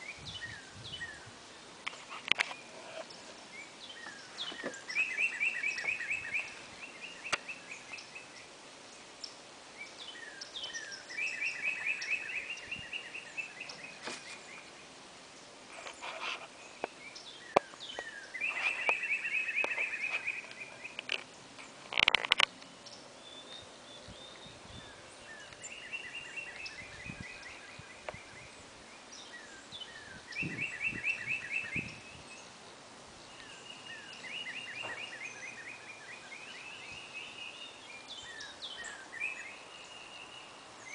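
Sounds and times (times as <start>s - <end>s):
songbird trilling: 2.3s - 8.5s, 9.2s - 14.7s, 15.8s - 32.6s, 33.2s - 40.9s.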